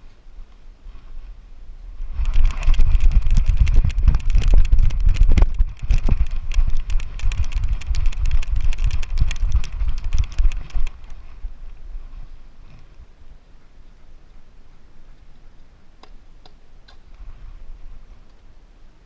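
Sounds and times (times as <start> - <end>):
low handling or wind rumble: 0.0 - 19.0.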